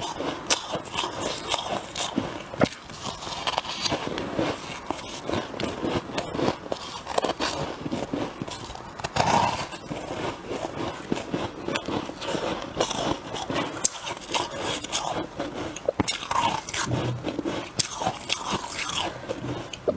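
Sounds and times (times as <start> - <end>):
frost being chewed: 0.0 - 19.9.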